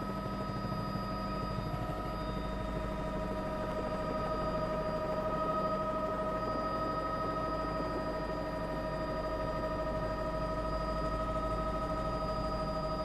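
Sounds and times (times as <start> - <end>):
helicopter cabin drone: 0.0 - 13.0.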